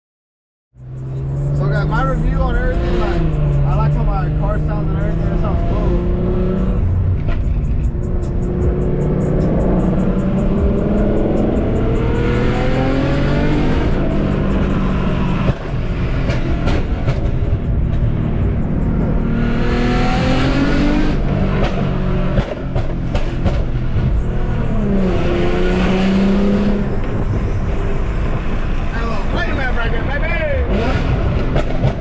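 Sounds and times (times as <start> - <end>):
car engine accelerating: 0.8 - 32.0.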